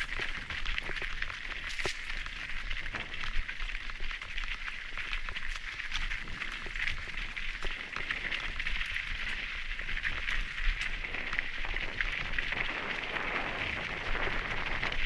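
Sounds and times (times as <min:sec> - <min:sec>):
tyres crunching on gravel: 0:00.0 - 0:14.7
bike clicking and rattling: 0:00.0 - 0:15.0
wind rumble on microphone: 0:00.0 - 0:15.0.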